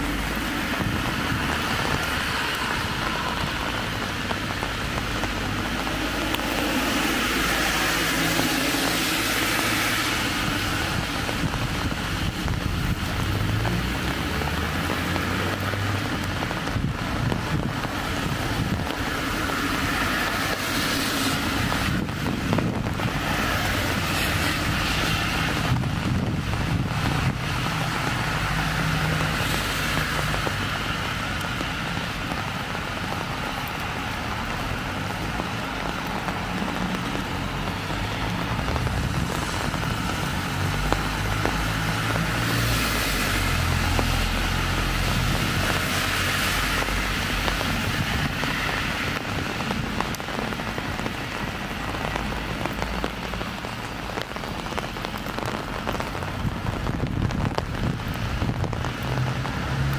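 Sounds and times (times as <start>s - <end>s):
car tyres on wet road: 0.0s - 59.9s
low traffic rumble: 0.0s - 59.9s
rain hiss: 0.0s - 59.9s.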